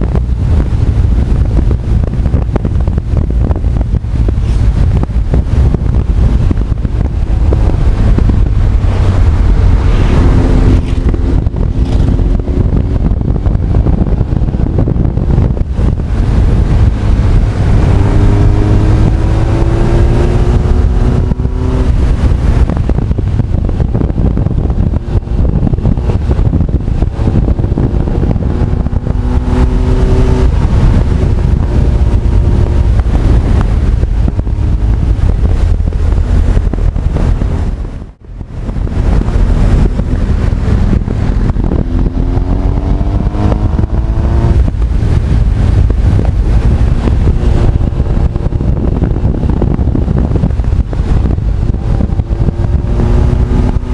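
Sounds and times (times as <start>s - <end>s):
motorcycle engine accelerating: 0.0s - 53.9s
wind buffeting microphone: 0.0s - 53.9s.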